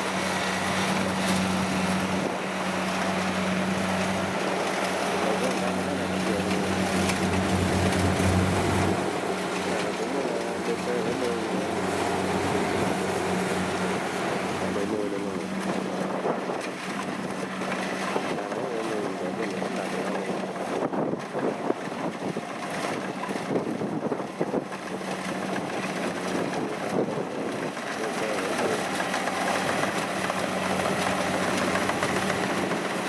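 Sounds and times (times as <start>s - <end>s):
combine harvester engine hum: 0.0s - 33.0s.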